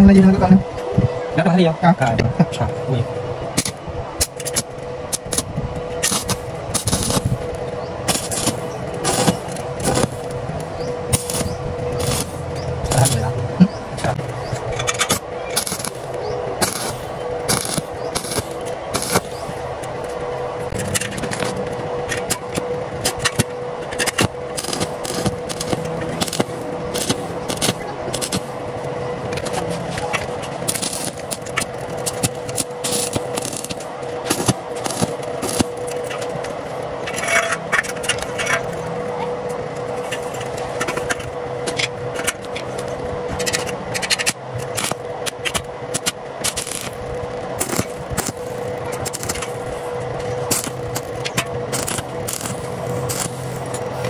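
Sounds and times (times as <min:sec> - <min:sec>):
steady hum: 0:00.0 - 0:54.0
welding arc crackling: 0:02.5 - 0:54.0.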